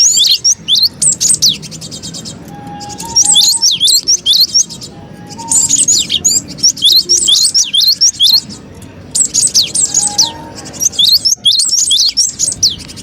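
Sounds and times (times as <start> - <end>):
bird sharp chirps: 0.0 - 8.6, 9.2 - 13.0.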